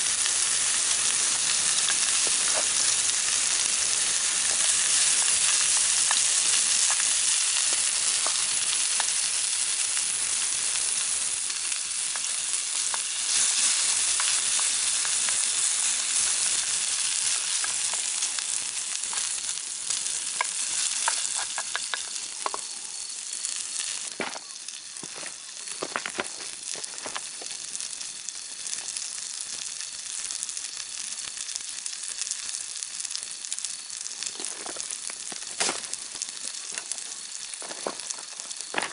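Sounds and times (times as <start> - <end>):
food sizzling in a pan: 0.0 - 38.9
sharp crackles: 0.0 - 38.9.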